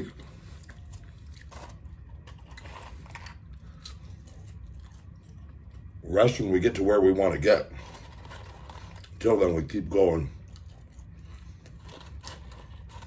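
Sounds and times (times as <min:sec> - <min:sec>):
person chewing and crunching: 0:00.0 - 0:06.0, 0:07.2 - 0:09.6, 0:10.2 - 0:13.0.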